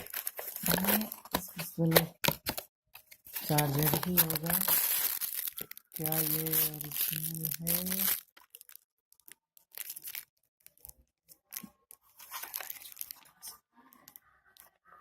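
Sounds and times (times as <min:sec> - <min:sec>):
packaging rustling and crinkling: 0:00.0 - 0:14.2.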